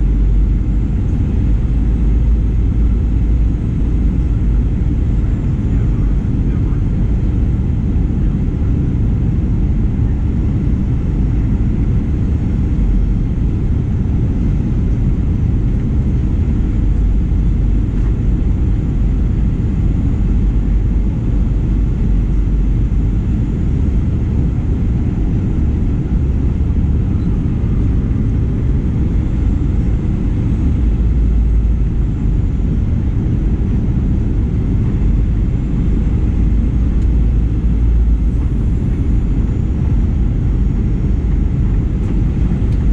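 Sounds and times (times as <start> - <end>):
airplane cabin rumble: 0.0 - 42.9.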